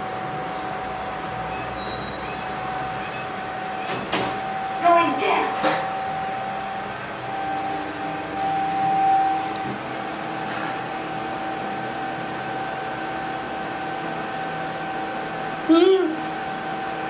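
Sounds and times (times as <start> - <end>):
machine hum with steady tones: 0.0 - 17.0.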